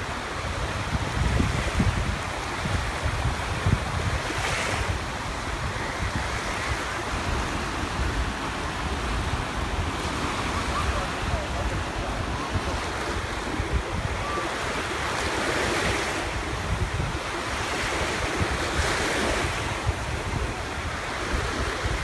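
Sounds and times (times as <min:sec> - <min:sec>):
small waves breaking on shore: 0:00.0 - 0:22.0
wind buffeting microphone: 0:00.0 - 0:22.0.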